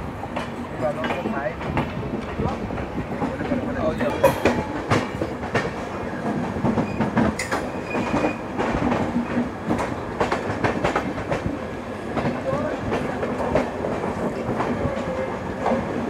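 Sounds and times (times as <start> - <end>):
train rushing noise: 0.0 - 16.0
train wheels clattering over rail joints: 0.3 - 16.0.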